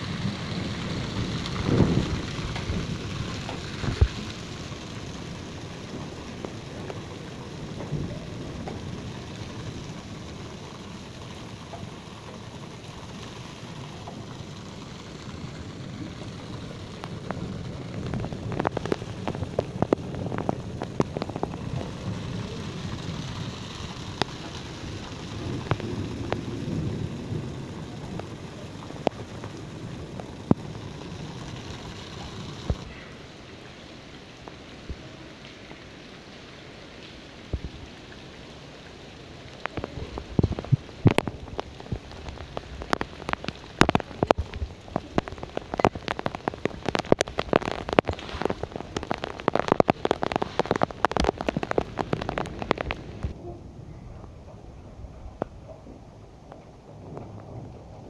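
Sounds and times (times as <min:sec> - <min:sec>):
hailstones clicking on hard surfaces: 0:00.0 - 0:33.0, 0:39.6 - 0:53.4
hail and rain falling: 0:00.0 - 0:58.0.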